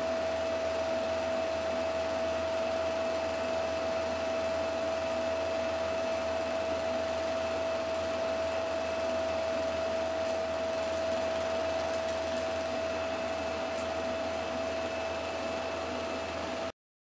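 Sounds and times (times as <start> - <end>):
film projector whirring: 0.0 - 16.7.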